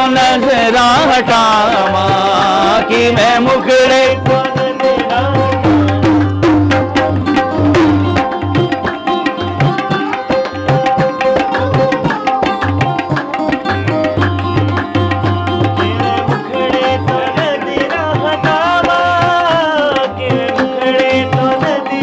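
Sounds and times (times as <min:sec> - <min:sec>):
sarod plucking melody: 0:00.0 - 0:22.0
tabla playing rhythm: 0:00.0 - 0:22.0.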